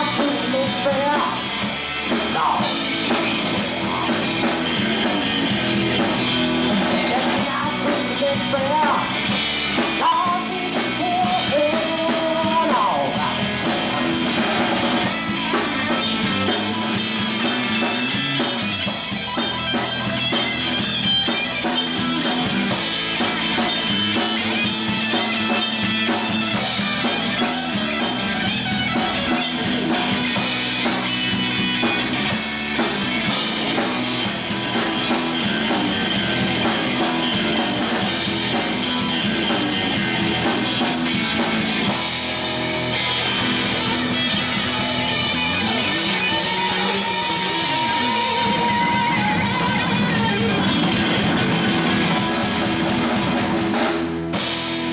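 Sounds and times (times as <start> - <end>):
distorted electric guitar: 0.0 - 54.9
drum kit: 0.0 - 54.9
electric bass: 0.0 - 54.9.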